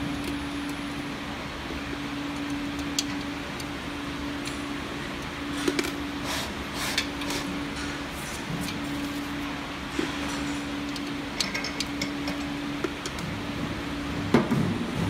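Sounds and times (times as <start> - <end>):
electric machine hum: 0.0 - 15.0.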